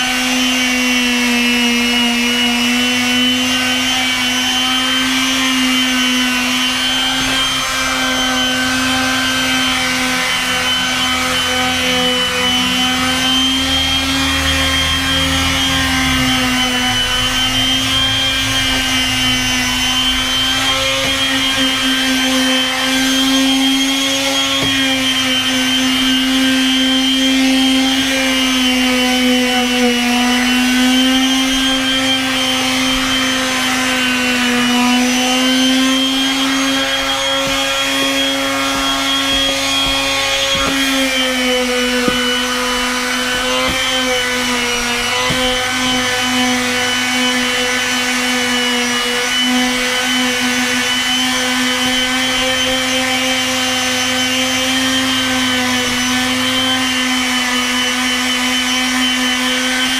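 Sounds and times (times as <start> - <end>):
palm sander sanding wood: 0.0 - 59.9.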